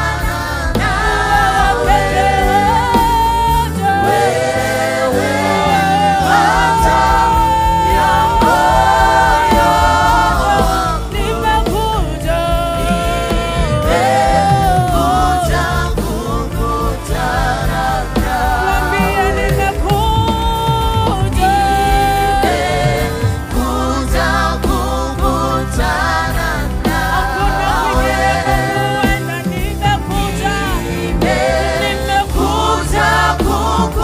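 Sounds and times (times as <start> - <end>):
instrumental backing: 0.0 - 34.0
male and female singers: 0.0 - 34.0.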